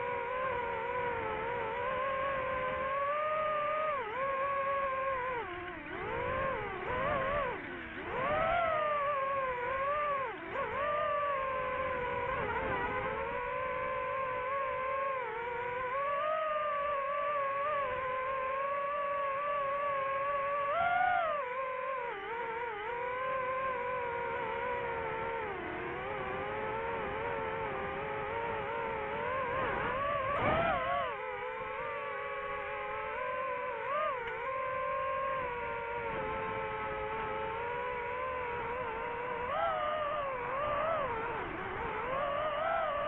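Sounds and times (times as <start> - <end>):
drone propellers whining: 0.0 - 43.0.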